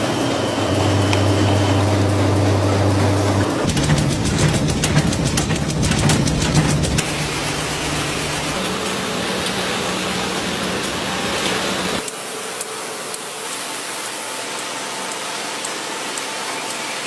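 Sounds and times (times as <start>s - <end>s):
machinery rushing noise: 0.0s - 14.1s
low machine hum: 0.0s - 14.2s.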